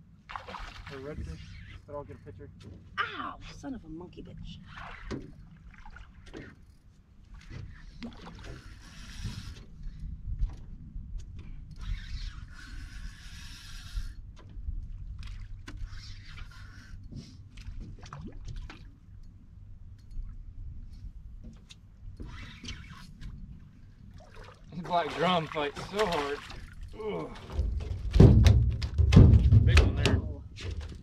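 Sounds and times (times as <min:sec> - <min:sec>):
wind and water rumble: 0:00.0 - 0:31.0.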